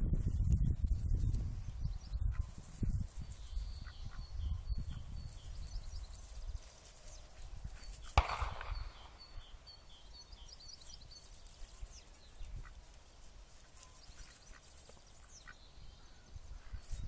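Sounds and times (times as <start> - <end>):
wind rumbling on microphone: 0.0 - 14.5, 15.3 - 17.0
distant birds chirping: 3.2 - 16.9.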